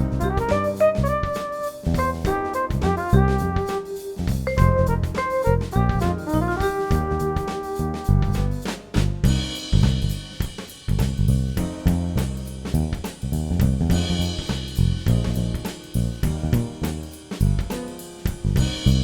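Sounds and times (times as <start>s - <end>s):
bass line: 0.0s - 17.8s, 18.4s - 19.0s
drum kit beat: 0.0s - 19.0s.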